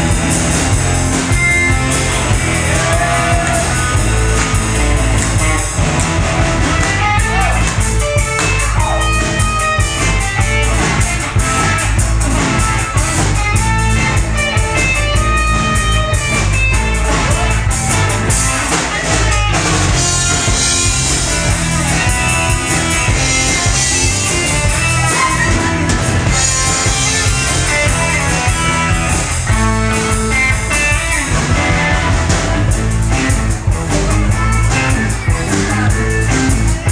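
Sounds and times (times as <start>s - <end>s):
drum kit: 0.0s - 36.9s
electric guitars: 0.0s - 36.9s
low end bass: 0.0s - 36.9s.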